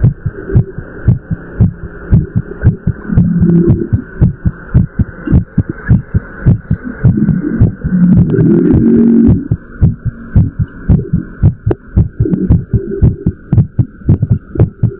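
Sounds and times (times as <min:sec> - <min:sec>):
fast heartbeat: 0:00.0 - 0:14.9.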